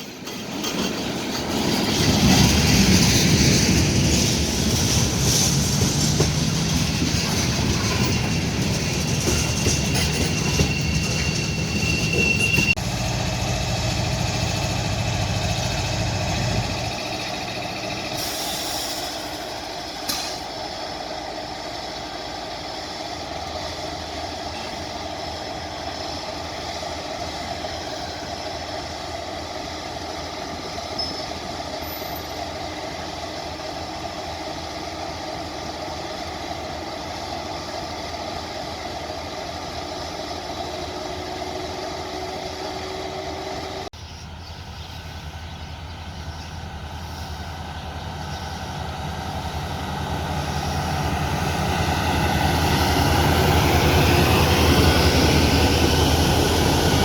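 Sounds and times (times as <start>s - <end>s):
diesel locomotive engine humming: 0.0s - 57.0s.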